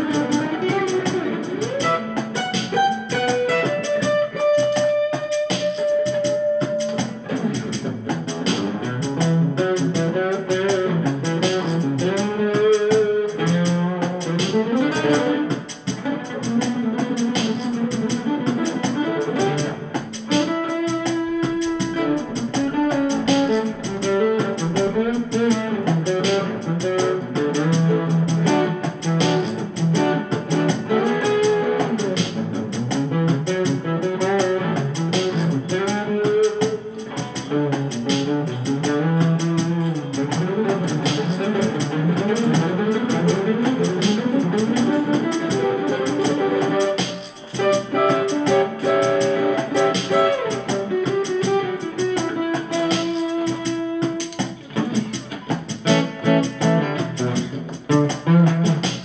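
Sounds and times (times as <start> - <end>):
instrumental music: 0.0 - 59.0.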